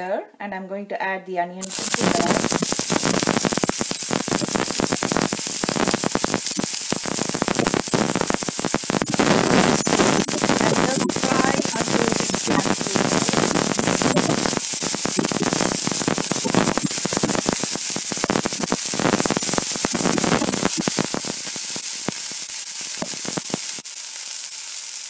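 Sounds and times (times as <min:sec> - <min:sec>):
onions sizzling in oil: 0:01.6 - 0:25.0.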